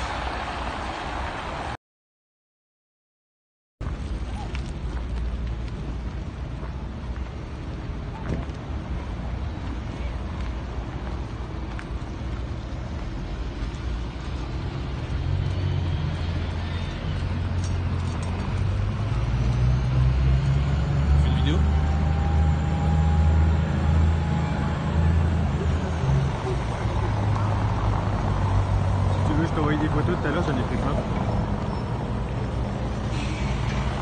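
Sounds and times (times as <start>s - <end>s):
road vehicle engine rumble: 3.8s - 34.0s.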